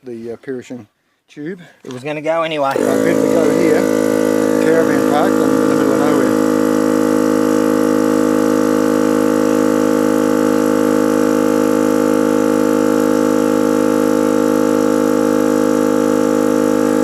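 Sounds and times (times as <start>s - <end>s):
air compressor droning: 2.7s - 17.0s.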